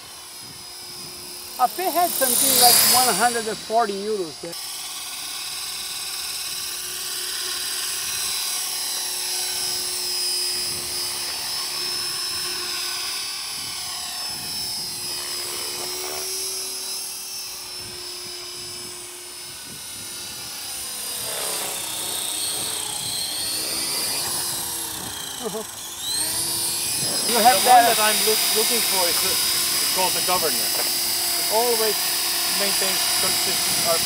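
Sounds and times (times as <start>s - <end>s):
model helicopter motor whine: 0.0s - 34.0s.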